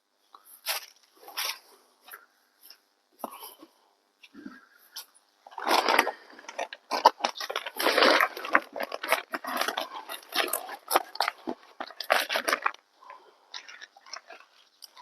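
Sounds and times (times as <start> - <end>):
insulation rustling and crinkling: 0.3 - 15.0.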